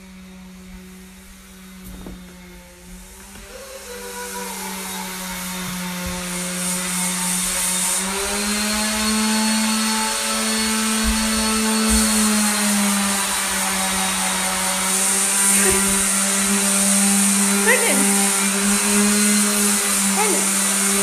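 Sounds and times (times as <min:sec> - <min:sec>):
electric power tool motor humming: 0:00.0 - 0:21.0.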